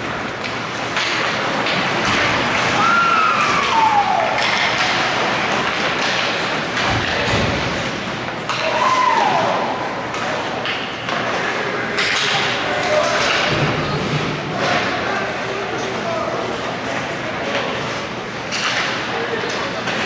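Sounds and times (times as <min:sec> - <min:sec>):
hockey sticks and puck knocking: 0:00.0 - 0:15.0, 0:16.8 - 0:20.0.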